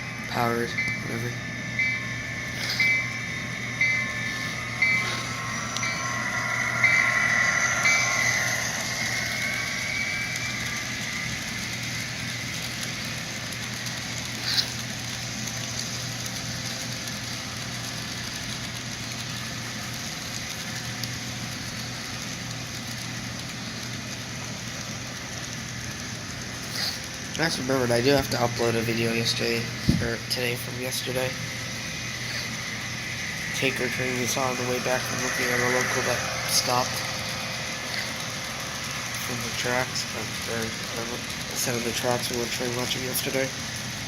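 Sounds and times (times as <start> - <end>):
model locomotive engine sound: 0.0 - 44.0.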